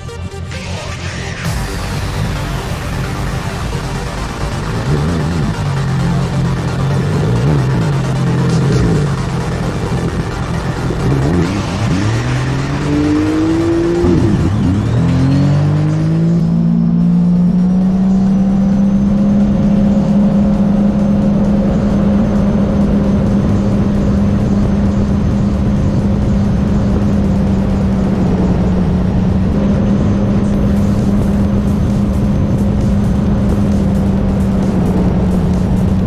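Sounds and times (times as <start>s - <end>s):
high engine whine: 0.0s - 36.0s
personal watercraft engine revving: 1.4s - 36.0s.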